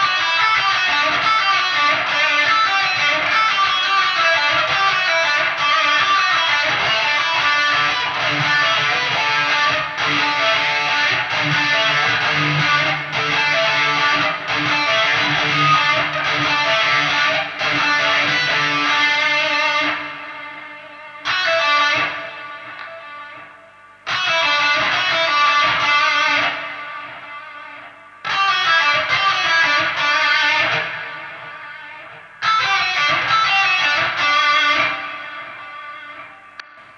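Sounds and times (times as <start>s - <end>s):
distorted electric guitar chords: 0.0s - 36.9s.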